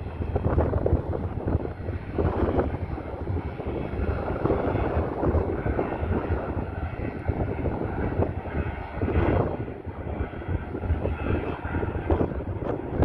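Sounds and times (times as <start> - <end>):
light aircraft engine and propeller: 0.0 - 13.0
wind on microphone: 0.0 - 13.0.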